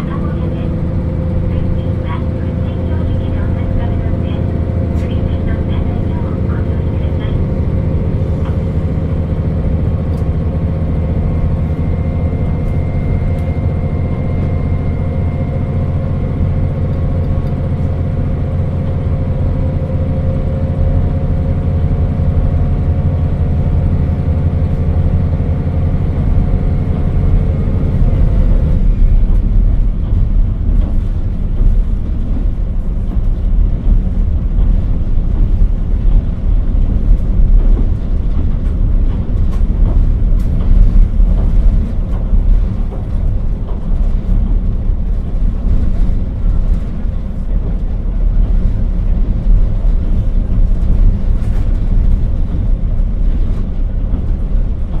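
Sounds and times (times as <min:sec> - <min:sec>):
diesel engine running: 0:00.0 - 0:55.0
wheels rumbling on rail: 0:00.0 - 0:55.0.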